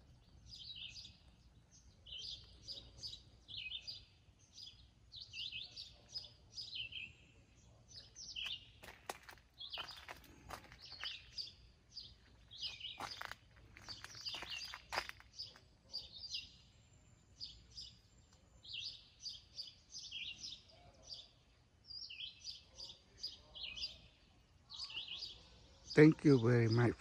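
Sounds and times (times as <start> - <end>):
songbirds chirping and singing: 0.0 - 27.0.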